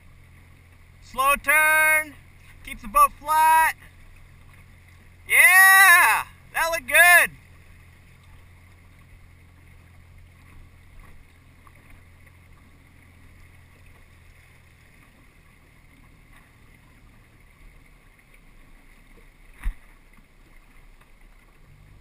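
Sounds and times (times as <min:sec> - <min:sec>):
boat motor hum: 0:00.0 - 0:22.0
water and wind along hull: 0:00.0 - 0:22.0.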